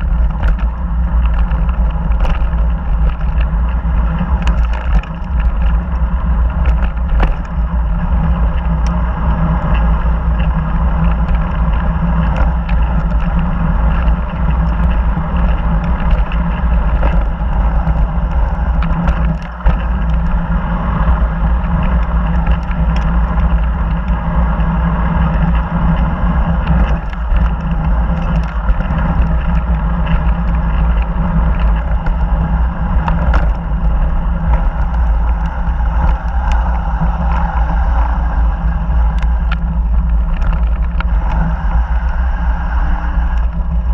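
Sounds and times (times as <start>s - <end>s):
bike rattling on bumps: 0.0s - 43.9s
wind rumble on microphone: 0.0s - 43.9s.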